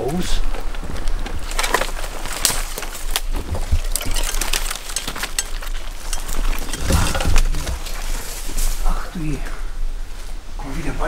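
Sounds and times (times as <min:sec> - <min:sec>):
footsteps through undergrowth: 0:00.0 - 0:11.0.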